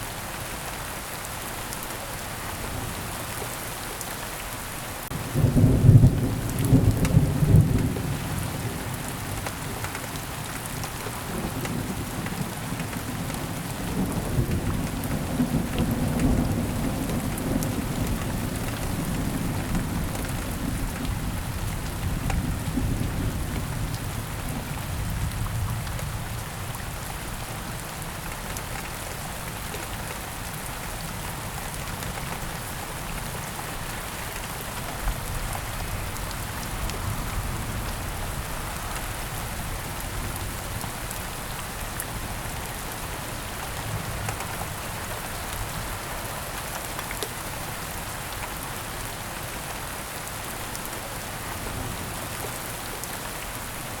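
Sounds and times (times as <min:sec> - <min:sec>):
heavy rain pattering: 0:00.1 - 0:54.0.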